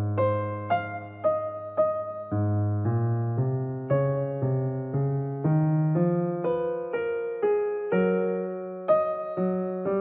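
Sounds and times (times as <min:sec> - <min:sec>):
keyboard chords: 0:00.0 - 0:10.0.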